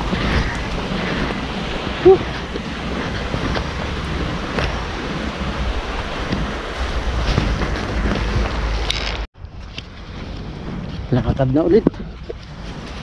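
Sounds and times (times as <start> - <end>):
wind and rain on microphone: 0.0 - 13.0.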